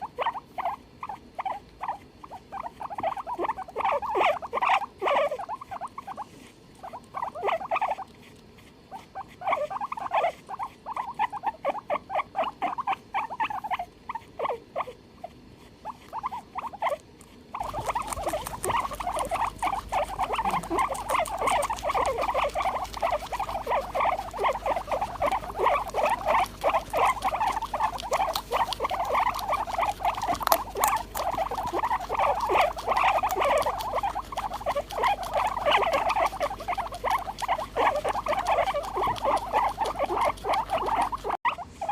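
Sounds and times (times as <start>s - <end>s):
guinea pig squealing: 0.0s - 41.9s.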